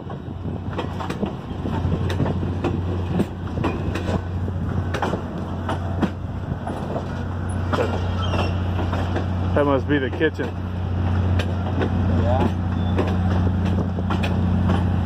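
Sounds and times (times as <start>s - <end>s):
train rumble: 0.0s - 15.0s
train wheels clacking on rails: 0.0s - 15.0s.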